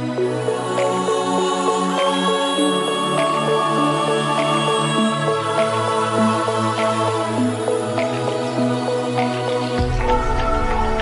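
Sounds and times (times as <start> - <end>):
electronic music with synth chords: 0.0 - 11.0.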